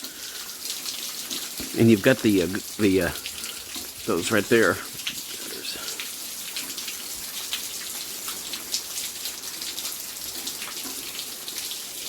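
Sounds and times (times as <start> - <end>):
raindrops ticking: 0.0 - 11.8
steady rain hiss: 0.0 - 12.0.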